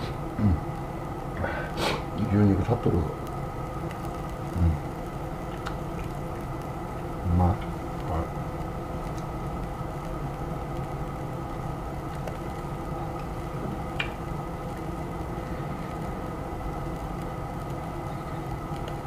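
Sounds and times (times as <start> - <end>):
fan motor whirring: 0.0 - 19.0.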